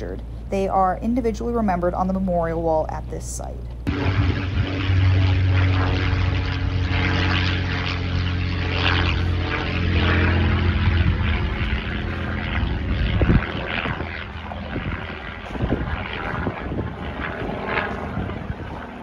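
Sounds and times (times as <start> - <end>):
propeller aircraft engine drone: 0.0 - 19.0.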